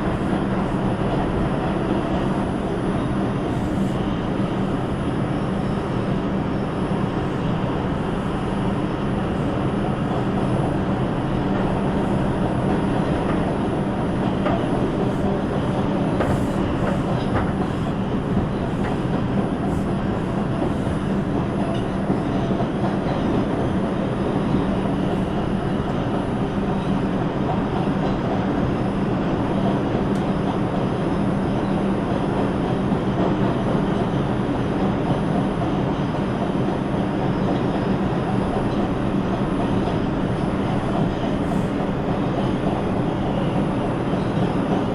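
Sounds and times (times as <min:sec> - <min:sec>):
train wheels rumbling on track: 0:00.0 - 0:44.9.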